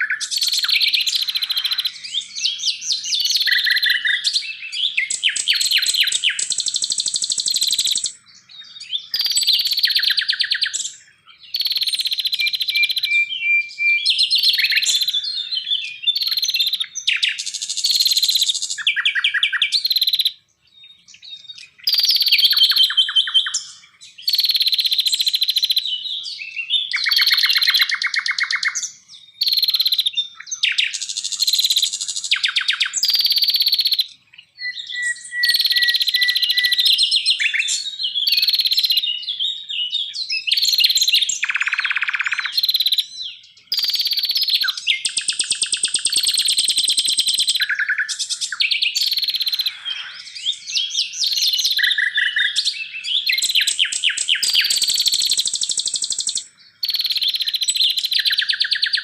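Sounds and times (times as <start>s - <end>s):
songbird trills and whistles: 0.0s - 59.0s.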